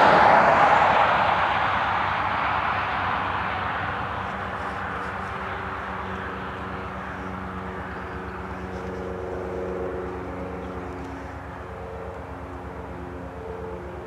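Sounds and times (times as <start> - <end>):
diesel locomotive engine throbbing: 0.0 - 14.0.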